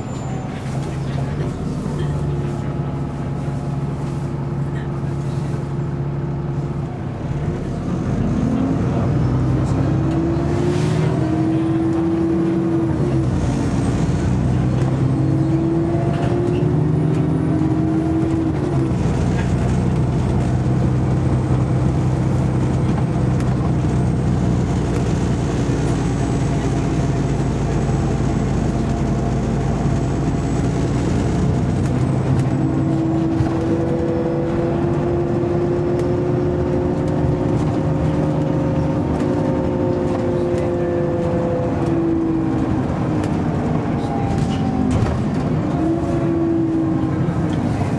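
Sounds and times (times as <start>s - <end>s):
bus engine drone: 0.0s - 47.9s.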